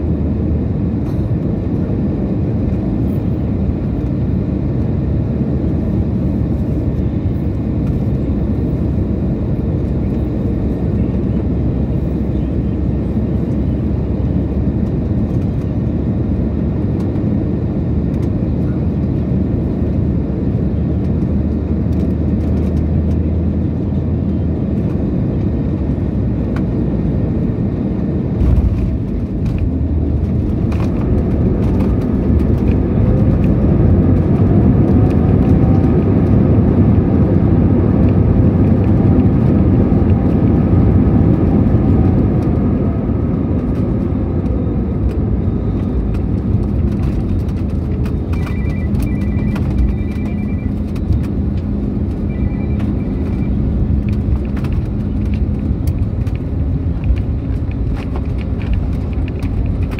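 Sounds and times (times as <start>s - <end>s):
airliner engine and airflow noise: 0.0s - 59.9s
engine whine: 0.0s - 59.9s.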